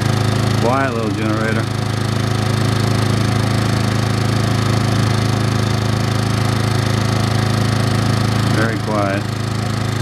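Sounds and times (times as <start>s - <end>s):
generator engine humming: 0.0s - 10.0s.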